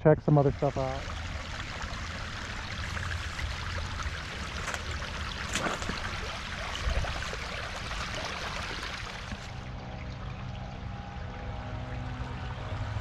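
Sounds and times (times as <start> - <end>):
creek water trickling: 0.2 - 13.0.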